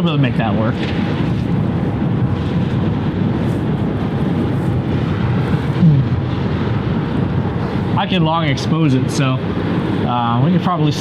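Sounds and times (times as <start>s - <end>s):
jet engines rumbling: 0.0s - 11.0s
wind on microphone: 0.0s - 11.0s.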